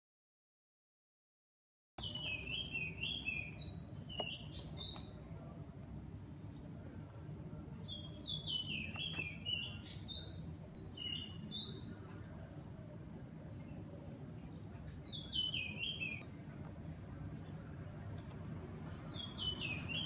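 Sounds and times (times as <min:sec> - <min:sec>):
small birds chirping: 0:02.0 - 0:20.0.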